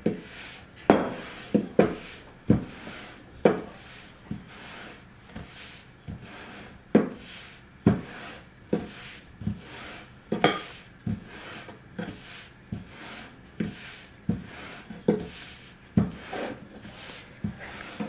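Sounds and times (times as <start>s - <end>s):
rolling pin rubbing dough: 0.0s - 18.0s.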